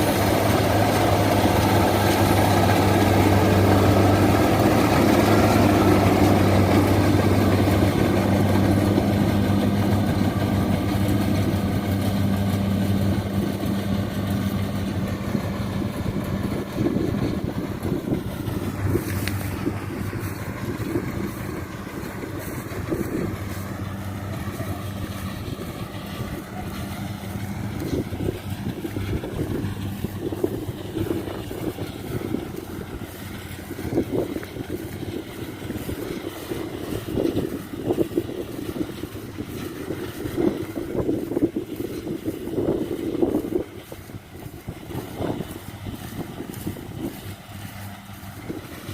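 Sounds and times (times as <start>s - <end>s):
combine harvester engine droning: 0.0s - 48.9s
wind buffeting microphone: 0.0s - 48.9s.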